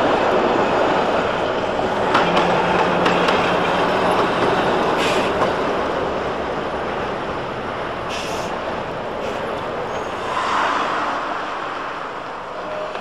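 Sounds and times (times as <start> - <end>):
tram wheels on rail: 0.0 - 13.0.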